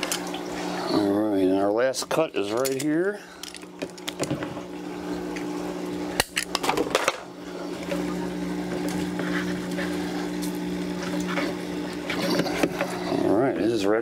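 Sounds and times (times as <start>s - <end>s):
electrical hum of equipment: 0.0s - 14.0s.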